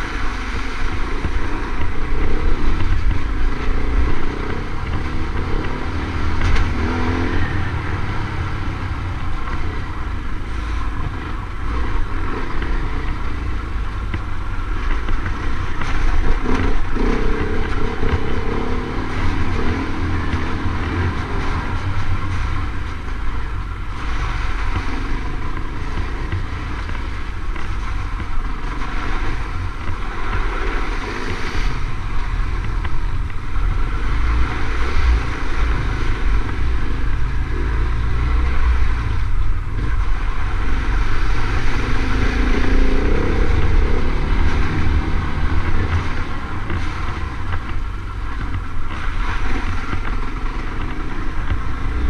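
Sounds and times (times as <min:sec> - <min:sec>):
motorcycle engine running: 0:00.0 - 0:52.0
wind rumble on microphone: 0:00.0 - 0:52.0.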